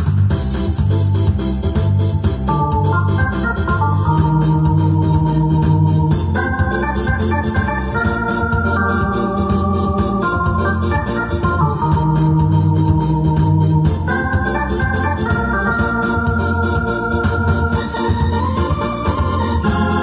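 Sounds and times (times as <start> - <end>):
accompaniment beat: 0.0 - 20.0
electronic keyboard organ melody: 0.0 - 20.0
steady bass line: 0.0 - 20.0.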